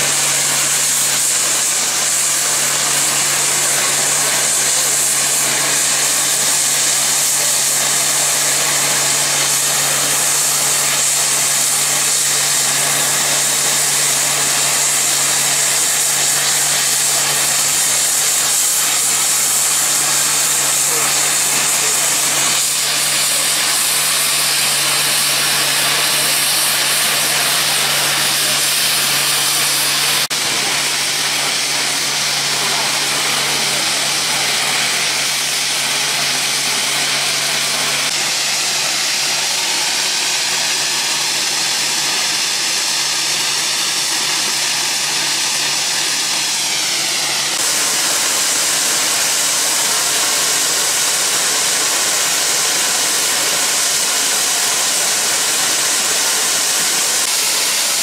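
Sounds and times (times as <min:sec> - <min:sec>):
steam venting hiss: 0:00.0 - 0:58.0.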